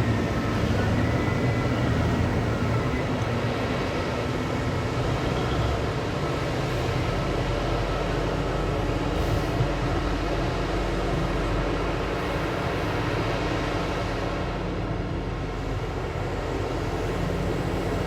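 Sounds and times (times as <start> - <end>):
diesel engine rumble: 0.0 - 18.0.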